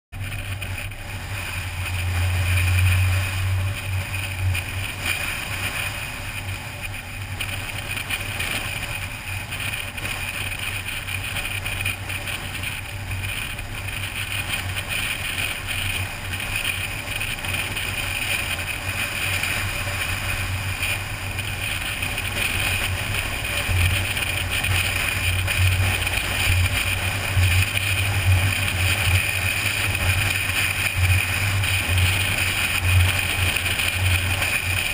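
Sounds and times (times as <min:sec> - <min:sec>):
car engine and tyre drone: 0:00.1 - 0:34.9.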